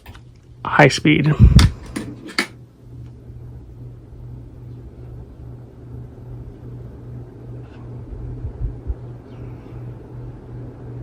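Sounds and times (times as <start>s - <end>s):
ceiling fan motor hum: 0.0s - 11.0s
rumble of air from fan blades: 0.0s - 11.0s.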